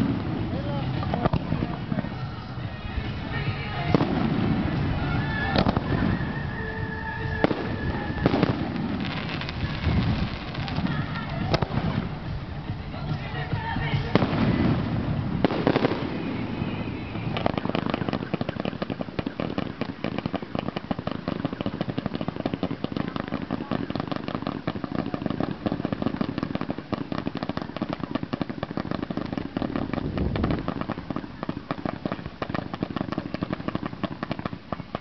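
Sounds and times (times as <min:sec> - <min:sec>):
fireworks barrage of bangs: 0:00.0 - 0:35.0.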